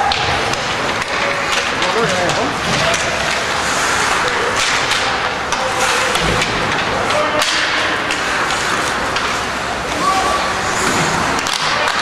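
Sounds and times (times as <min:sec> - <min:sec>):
sticks striking puck: 0:00.0 - 0:12.0
skates scraping on ice: 0:00.4 - 0:07.0, 0:07.8 - 0:12.0.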